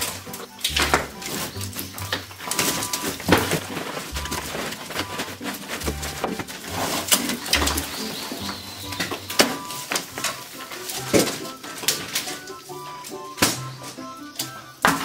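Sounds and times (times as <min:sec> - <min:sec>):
wall plaster clattering down: 0:00.0 - 0:15.0.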